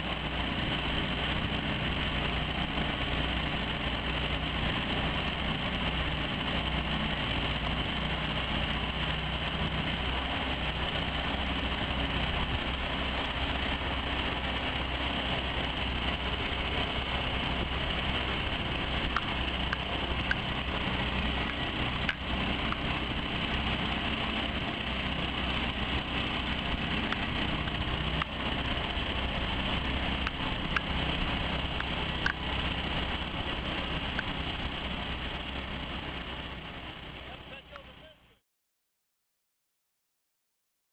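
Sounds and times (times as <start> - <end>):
outboard motor running: 0.0 - 38.4.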